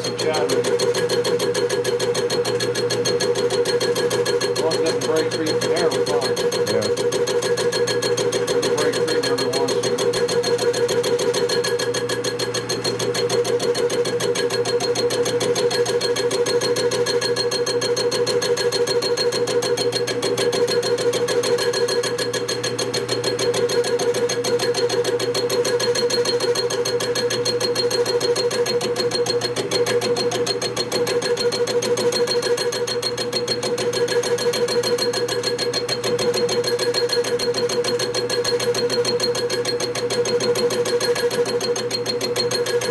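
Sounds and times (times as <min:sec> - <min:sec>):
machine tool whining and rattling: 0:00.0 - 0:42.9.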